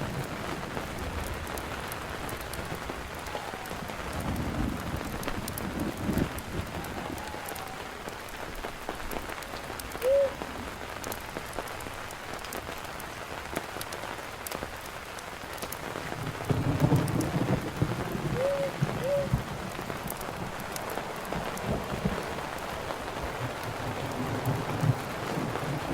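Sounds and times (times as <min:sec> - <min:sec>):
campfire crackling: 0:00.0 - 0:25.9
steady rain: 0:00.0 - 0:25.9.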